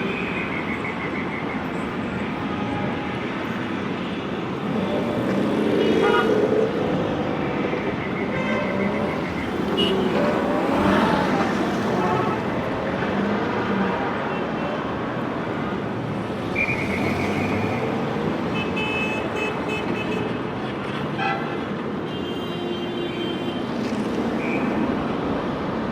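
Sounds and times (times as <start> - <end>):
city street traffic: 0.0 - 25.9.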